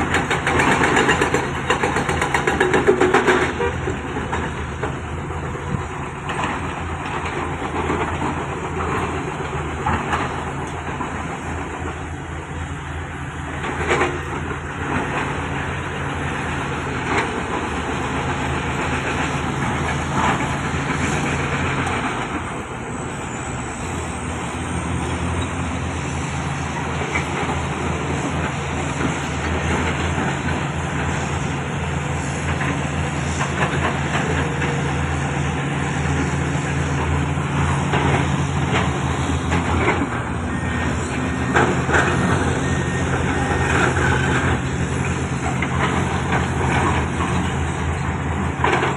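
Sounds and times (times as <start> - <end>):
diesel construction machinery: 0.0 - 48.9.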